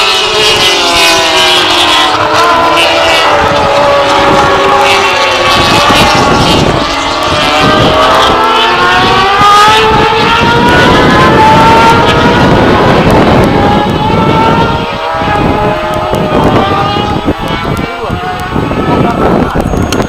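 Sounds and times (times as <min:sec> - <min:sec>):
superbike engines revving: 0:00.0 - 0:20.0.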